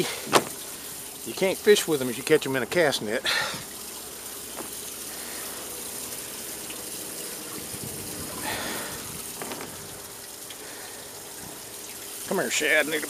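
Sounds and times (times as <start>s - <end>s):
pump spraying water into tank: 0.0s - 13.0s.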